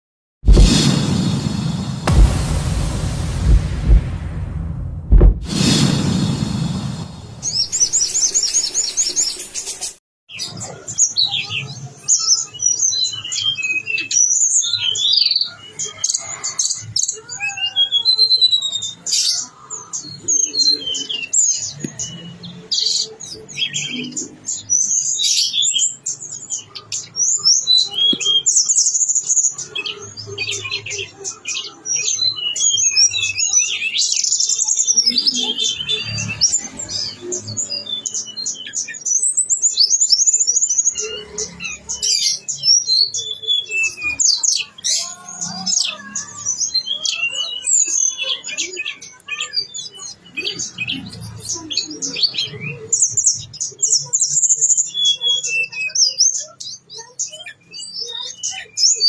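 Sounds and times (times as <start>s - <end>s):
songbird singing chirps and trills: 7.6s - 59.0s.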